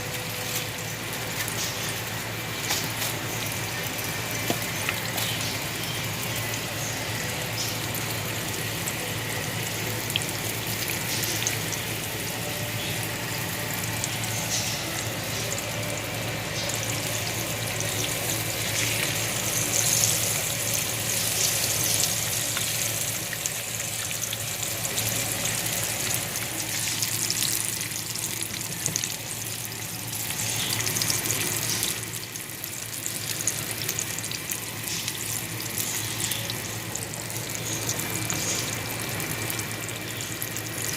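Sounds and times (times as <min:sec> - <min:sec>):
frying sizzle and crackle: 0:00.0 - 0:40.9
low steady hum: 0:00.0 - 0:40.9.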